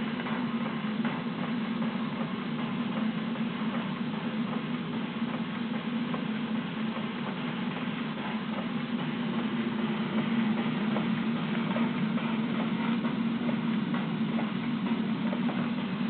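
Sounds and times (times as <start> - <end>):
model steam engine running: 0.0 - 16.0.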